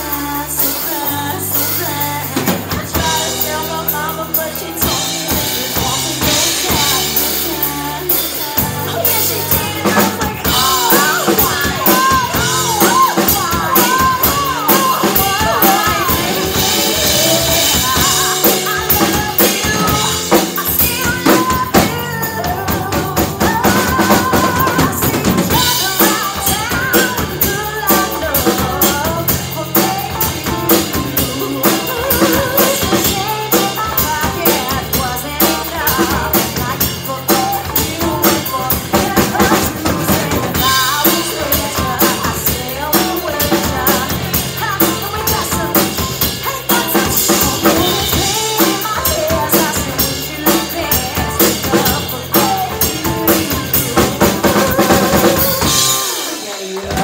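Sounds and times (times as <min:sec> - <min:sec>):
bass guitar: 0:00.0 - 0:57.0
drum kit beat: 0:00.0 - 0:57.0
electric guitar: 0:00.0 - 0:57.0.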